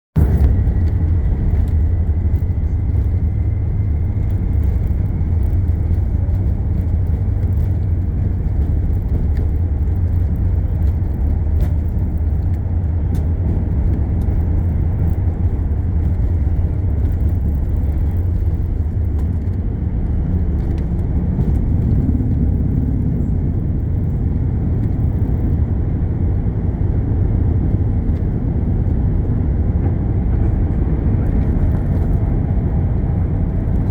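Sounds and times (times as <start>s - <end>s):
airplane cabin rumble: 0.2s - 33.9s.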